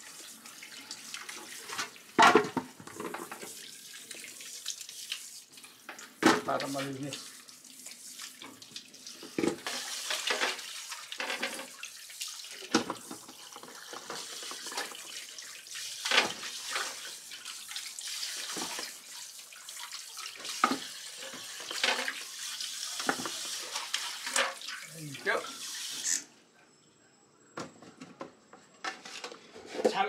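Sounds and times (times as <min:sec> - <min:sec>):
tap water running into sink: 0:00.0 - 0:26.2.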